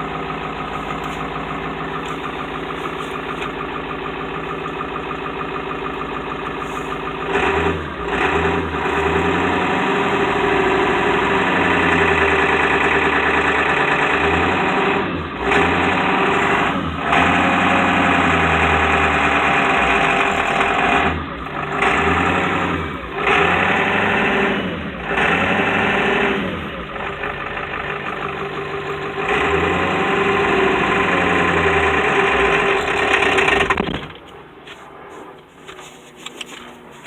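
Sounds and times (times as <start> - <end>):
diesel engine idling and revving: 0.0 - 37.0.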